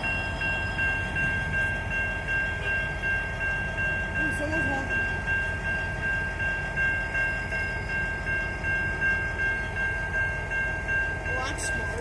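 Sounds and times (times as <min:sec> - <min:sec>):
crossing bell ringing rapidly: 0:00.0 - 0:12.0
diesel locomotive idling: 0:00.0 - 0:12.0.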